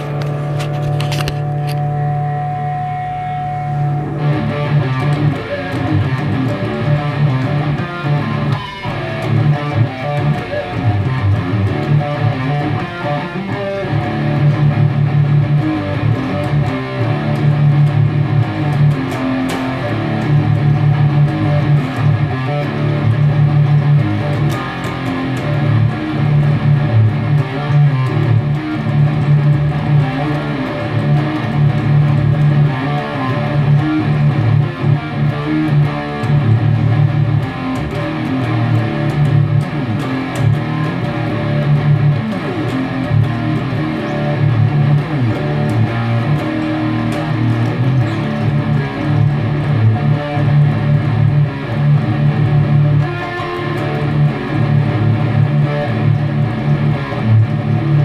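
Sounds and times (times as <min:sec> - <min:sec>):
distorted electric guitar metal riffs: 0:00.0 - 0:58.0.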